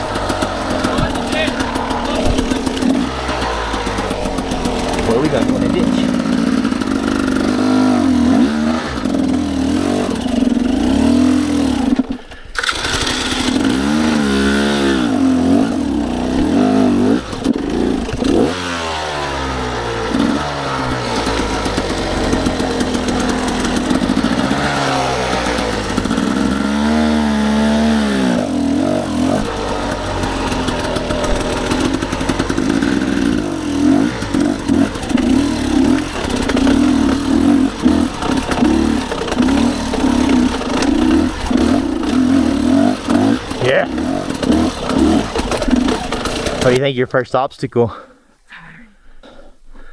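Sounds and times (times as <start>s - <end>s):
dirt bike engine revving: 0.0s - 48.1s.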